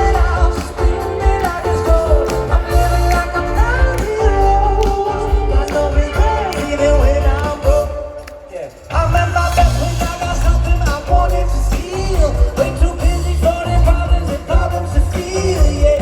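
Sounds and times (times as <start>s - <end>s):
live rock band playing: 0.0s - 8.2s, 8.8s - 16.0s
person singing: 0.0s - 16.0s.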